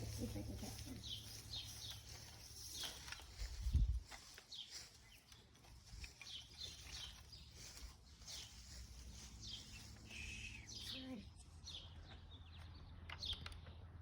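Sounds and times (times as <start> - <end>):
faint bird chirping: 0.0 - 13.8.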